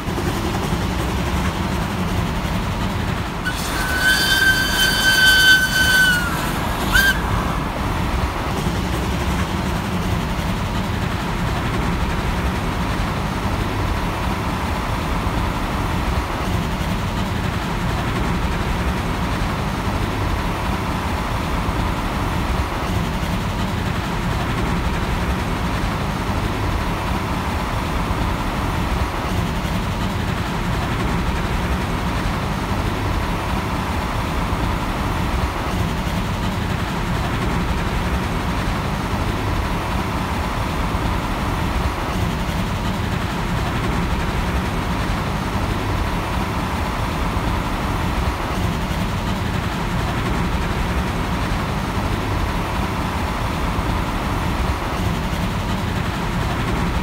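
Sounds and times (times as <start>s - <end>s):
vehicles rumbling: 0.0s - 57.0s.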